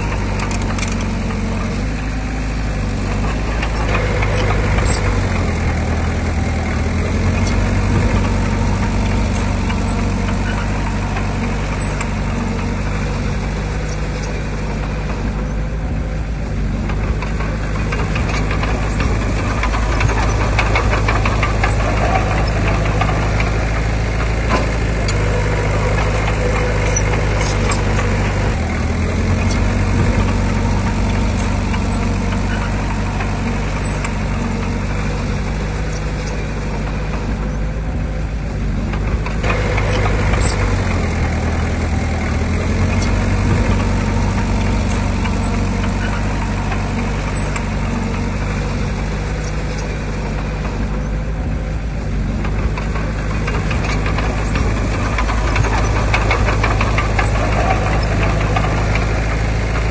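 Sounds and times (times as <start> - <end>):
diesel engine running: 0.0 - 59.9
metallic clanks and rattles: 0.0 - 59.9.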